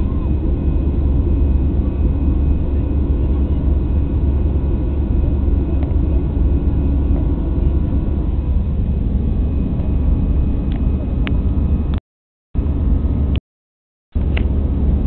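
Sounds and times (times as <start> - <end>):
jet engines rumbling: 0.0 - 12.0, 12.6 - 13.4, 14.2 - 15.0.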